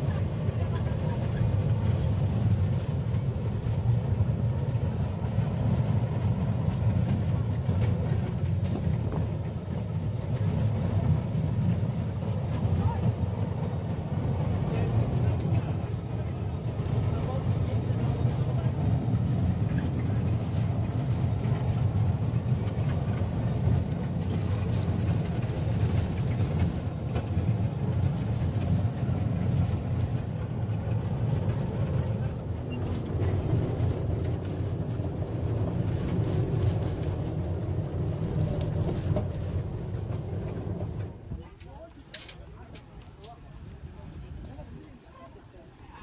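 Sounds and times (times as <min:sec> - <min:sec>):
road train engine rumble: 0:00.0 - 0:46.0.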